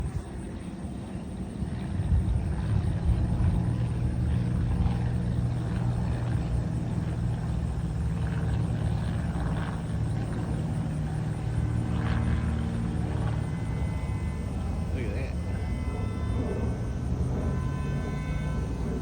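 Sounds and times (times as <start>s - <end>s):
aircraft engines rumbling overhead: 0.0s - 19.0s.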